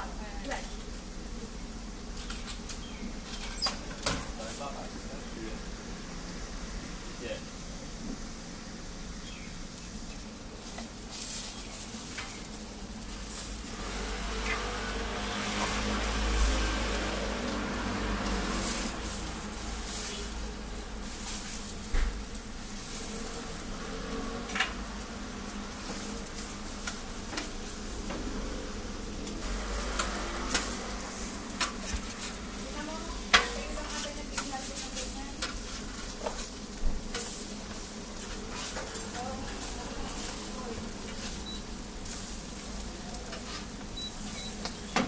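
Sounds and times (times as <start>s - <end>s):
pancakes sizzling on a griddle: 0.0s - 45.0s.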